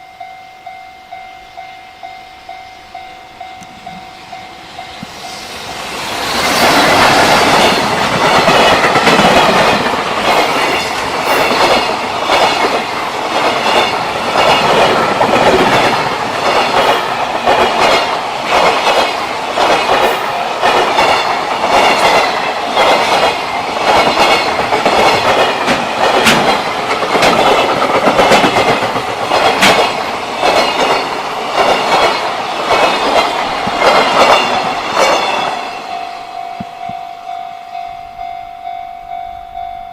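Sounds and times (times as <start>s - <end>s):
train wheels clattering: 3.5s - 37.0s.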